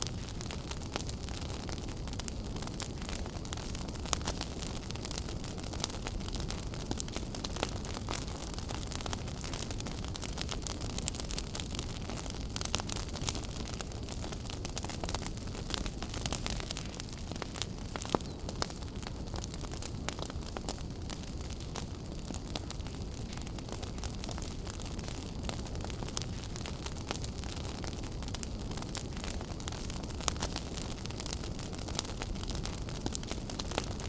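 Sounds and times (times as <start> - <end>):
fire crackles and pops: 0.0 - 34.0
wood fire rumbling: 0.0 - 34.0.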